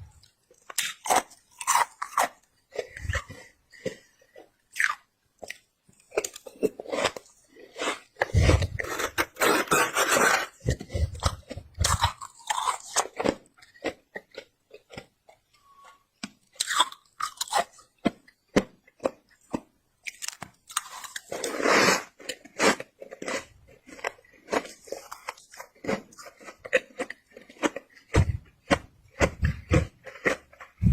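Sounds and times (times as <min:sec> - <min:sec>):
chewing crunchy frost: 0:00.1 - 0:30.9.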